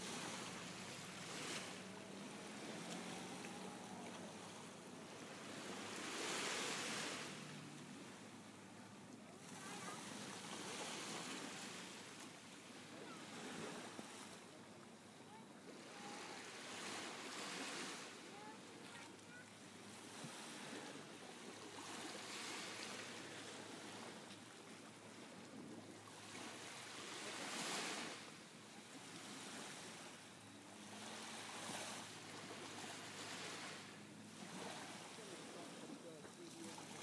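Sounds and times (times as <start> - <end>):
small waves lapping on shore: 0.0 - 37.0.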